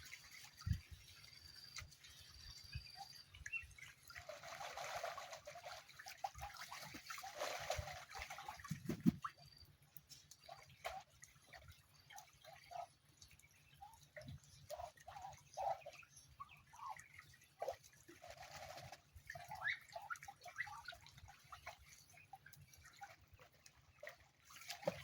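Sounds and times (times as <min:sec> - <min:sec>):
water drips and small splashes: 0:00.0 - 0:25.0.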